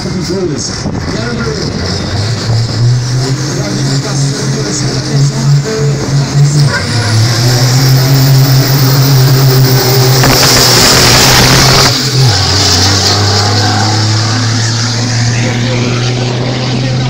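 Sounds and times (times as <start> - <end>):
diesel truck engine at full throttle: 0.0 - 17.0.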